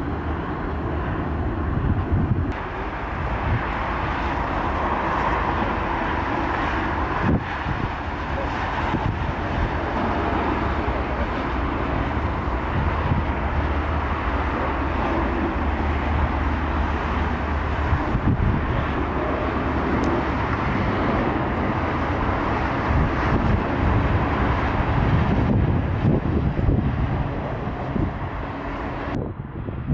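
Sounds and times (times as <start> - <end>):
jet engines taxiing: 0.0 - 29.9
wind on microphone: 0.0 - 29.9.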